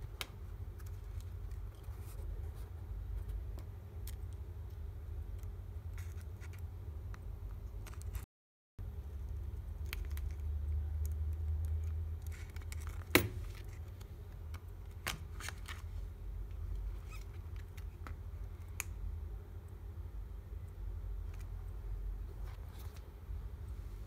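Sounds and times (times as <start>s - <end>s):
steady low hum: 0.0s - 8.2s, 8.8s - 24.0s.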